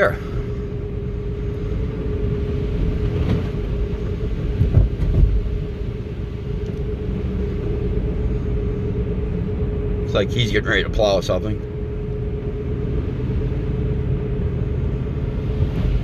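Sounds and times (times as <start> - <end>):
steady car hum: 0.0 - 16.0.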